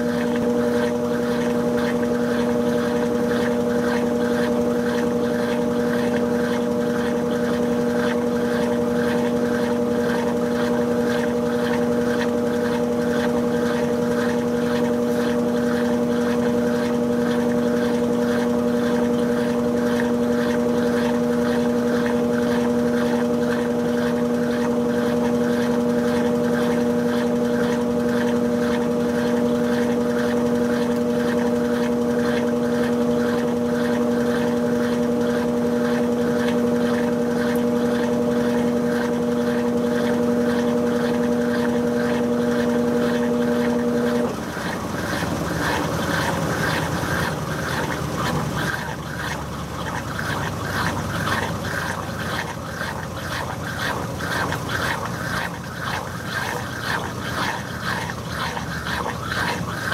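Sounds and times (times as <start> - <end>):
washing machine spin cycle: 0.0 - 59.9.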